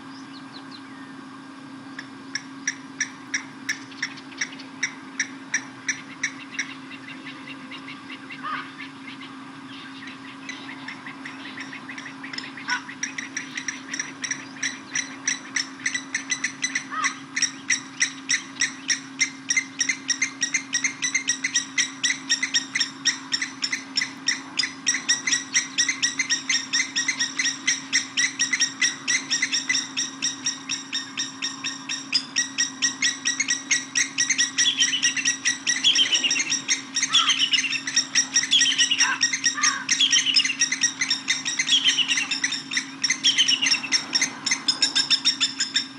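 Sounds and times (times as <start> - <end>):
lapwings metallic tink calls: 2.0 - 45.9.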